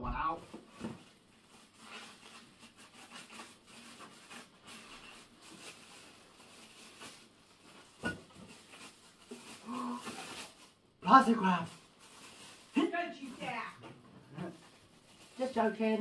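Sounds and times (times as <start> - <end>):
packaging rustling and crinkling: 0.4 - 16.0
wrapping tearing: 1.2 - 13.8, 14.4 - 15.8.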